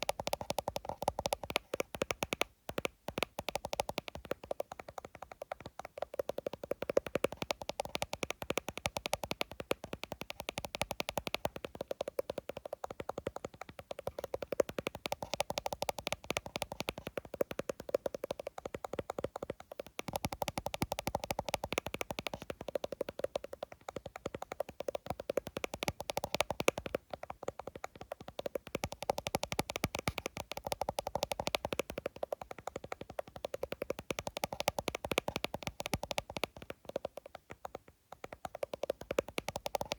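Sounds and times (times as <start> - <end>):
fast tapping on a phone: 0.0 - 39.9.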